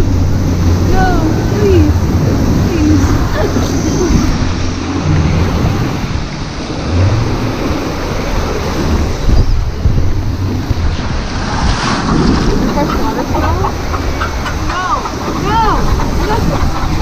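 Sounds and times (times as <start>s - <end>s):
whitewater rapids rushing: 0.0s - 17.0s
wind buffeting microphone: 0.0s - 17.0s.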